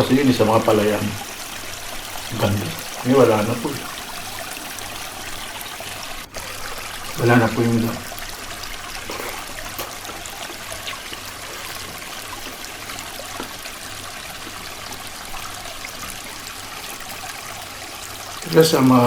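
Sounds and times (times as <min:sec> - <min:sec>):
creek water trickling: 0:00.0 - 0:19.0.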